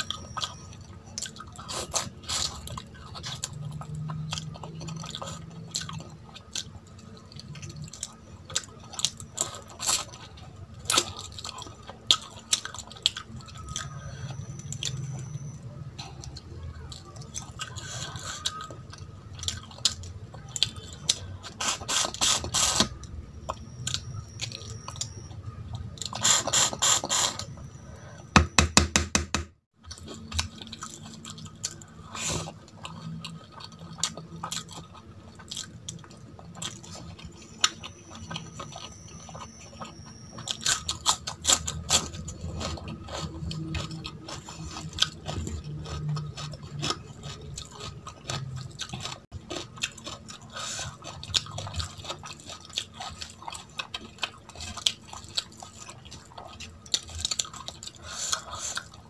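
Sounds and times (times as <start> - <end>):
chewing: 0.0 - 28.2, 29.8 - 59.0.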